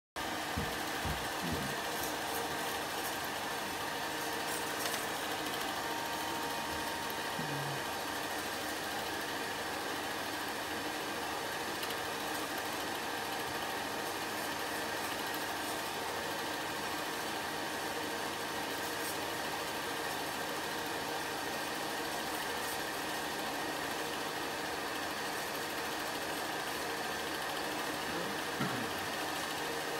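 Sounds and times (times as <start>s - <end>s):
film projector whirring: 0.2s - 29.9s.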